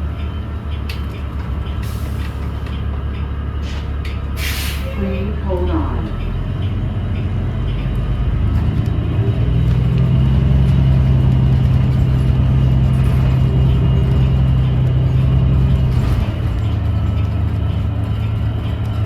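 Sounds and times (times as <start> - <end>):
bus drivetrain drone: 0.0 - 19.0.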